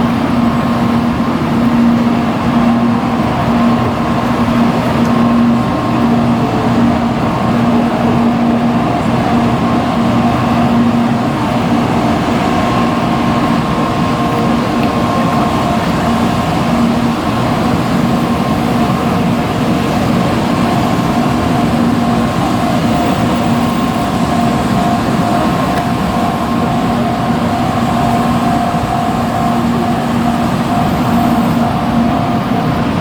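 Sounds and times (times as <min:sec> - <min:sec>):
steady humming tones: 0:00.0 - 0:33.0
vehicle running noise: 0:00.0 - 0:33.0.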